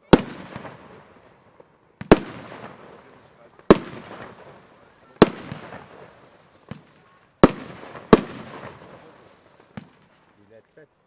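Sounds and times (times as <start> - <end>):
firework bangs: 0.0 - 10.4.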